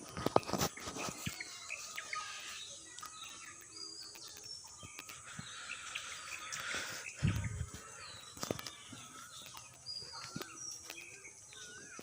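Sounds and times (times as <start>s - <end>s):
faint high outdoor hiss: 0.0s - 12.0s
small birds chirping: 0.0s - 12.0s.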